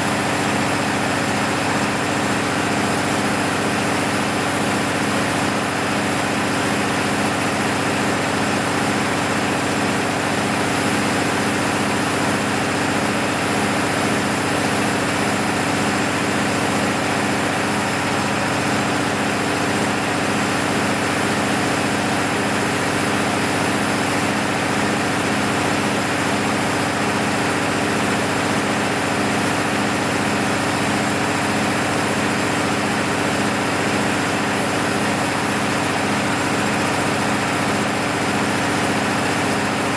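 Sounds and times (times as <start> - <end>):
generator diesel engine running: 0.0 - 39.9.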